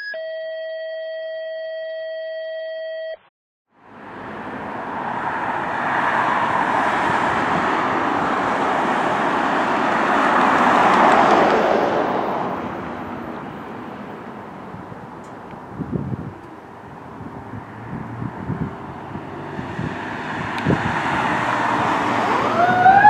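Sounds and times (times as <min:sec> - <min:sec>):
cars passing on road: 0:03.7 - 0:23.0.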